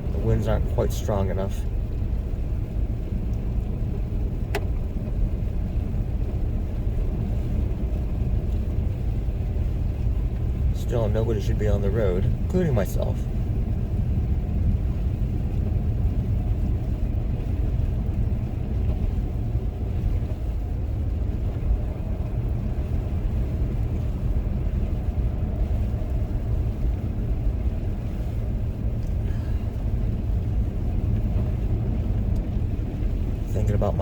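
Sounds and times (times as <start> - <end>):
car engine and tyre noise: 0.0 - 34.0.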